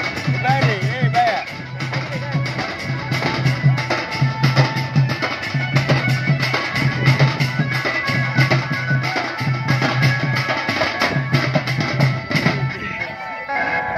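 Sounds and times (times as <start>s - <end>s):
barrel drums beaten fast: 0.0s - 12.8s.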